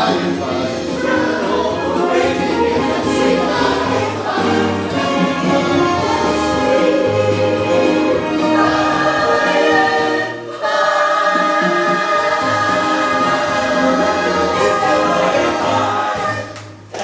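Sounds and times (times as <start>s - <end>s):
choir singing held notes: 0.0s - 17.0s
musical accompaniment: 0.0s - 17.0s.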